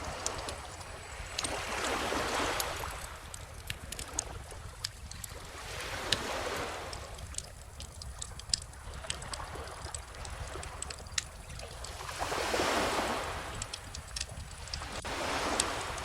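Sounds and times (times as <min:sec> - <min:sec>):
ocean waves: 0:00.0 - 0:16.0
wood fire crackling: 0:00.0 - 0:16.0.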